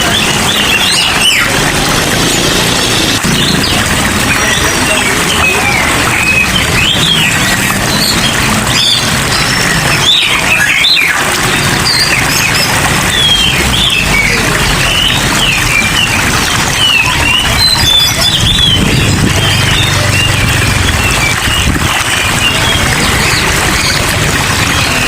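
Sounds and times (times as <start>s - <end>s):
rain water hiss: 0.1s - 25.0s.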